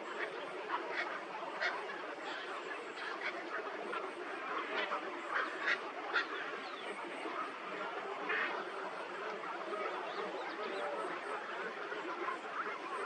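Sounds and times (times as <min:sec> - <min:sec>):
birds chattering: 0:00.0 - 0:07.6, 0:08.2 - 0:13.0.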